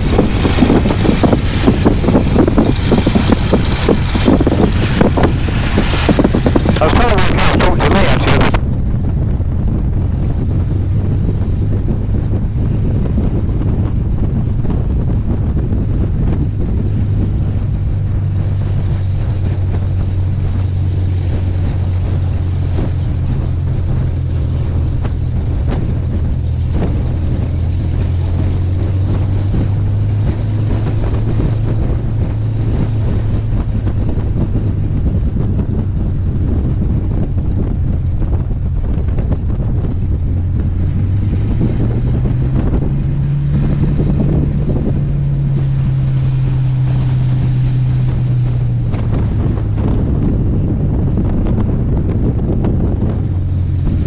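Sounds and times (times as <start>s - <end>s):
aircraft engine running: 0.0s - 54.0s
wind on microphone: 0.0s - 54.0s.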